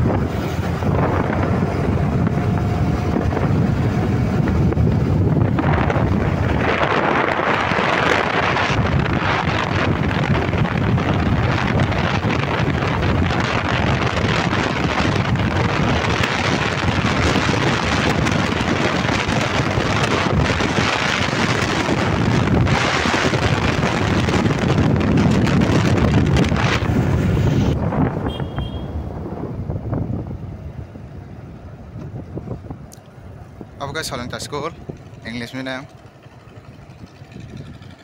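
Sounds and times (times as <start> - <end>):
motorcycle engine: 0.0 - 38.0
wind rushing over microphone: 0.0 - 38.0.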